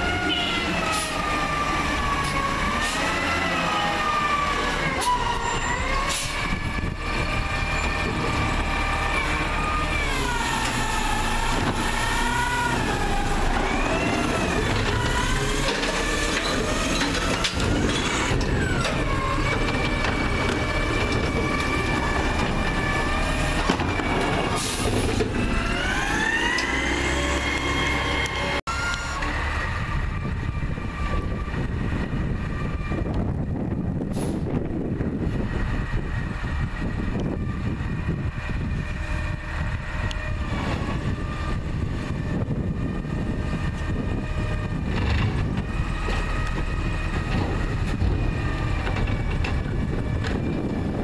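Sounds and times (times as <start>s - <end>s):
garbage truck running: 0.0s - 51.0s.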